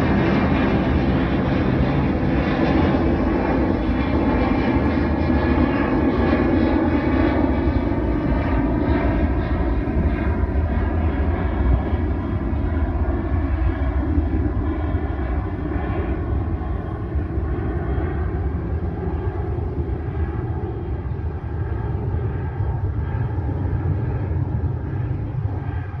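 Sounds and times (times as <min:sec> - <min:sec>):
jet engine rumble with whine: 0:00.0 - 0:26.0.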